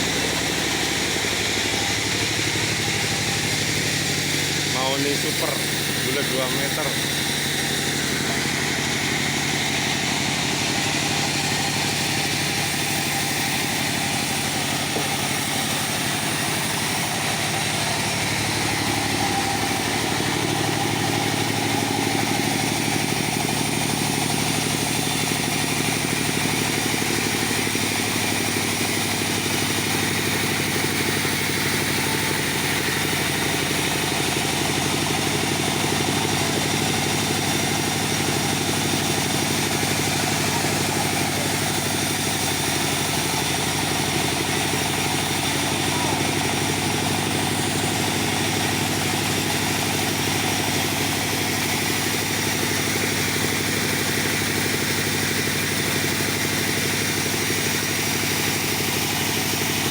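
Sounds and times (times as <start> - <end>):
circular saw sawing wood: 0.0 - 59.9.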